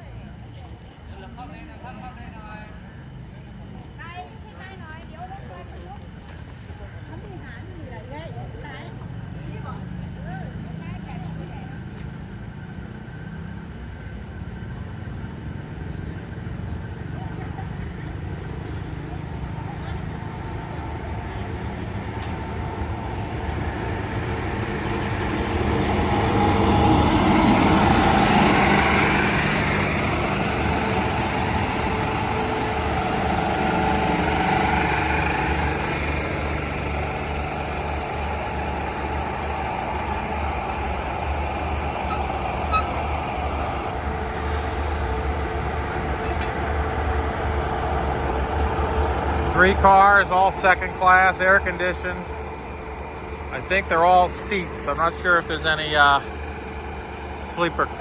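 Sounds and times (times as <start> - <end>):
diesel train passing: 0.0 - 58.0
locomotive engine idling: 0.0 - 58.0.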